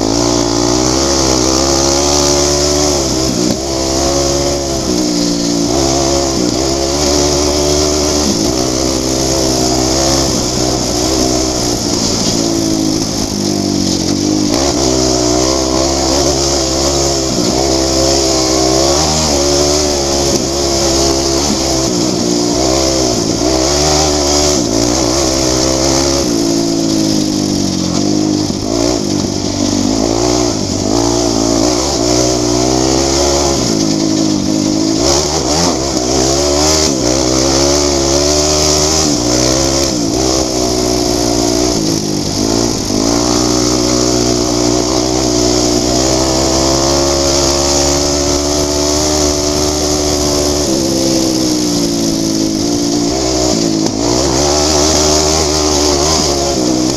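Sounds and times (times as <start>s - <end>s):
atv engine revving: 0.0s - 56.9s
steady high hiss: 0.0s - 56.9s.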